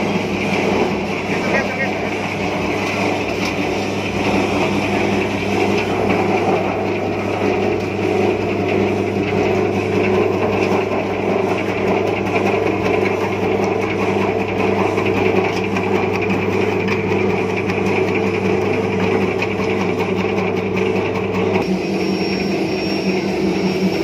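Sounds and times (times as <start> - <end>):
slicing machine humming: 0.0 - 24.0.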